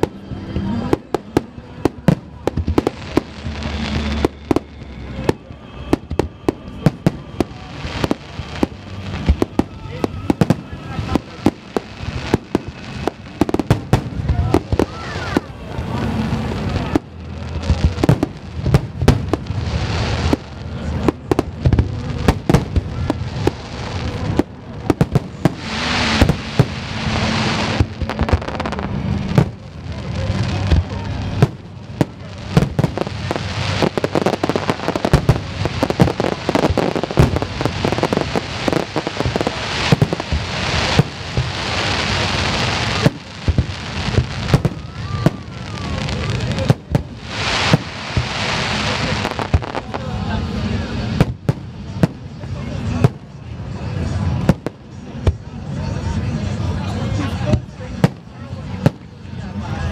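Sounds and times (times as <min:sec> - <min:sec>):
firework hissing crackle: 0:00.0 - 0:59.9.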